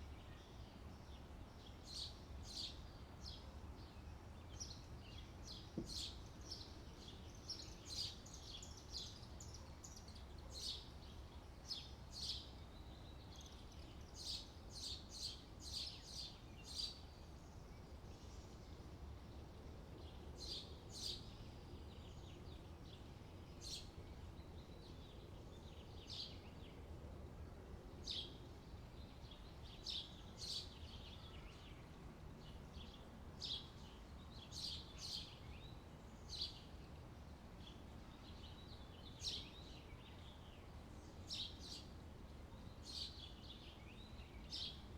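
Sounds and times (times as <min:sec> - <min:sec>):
small birds chirping: 0:00.0 - 0:26.9, 0:28.0 - 0:44.9.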